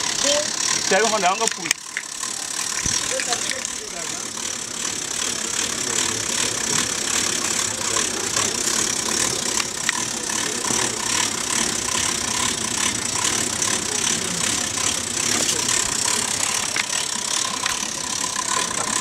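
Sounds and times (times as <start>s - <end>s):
hand-cranked pump clattering: 0.0s - 19.0s.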